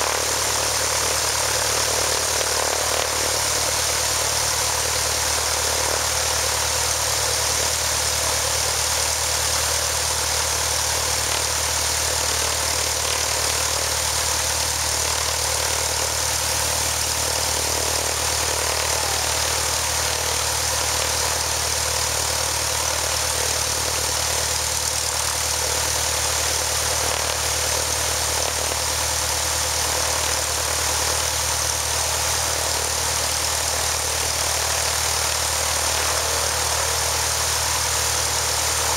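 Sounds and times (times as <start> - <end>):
aircraft piston engine running: 0.0 - 38.9.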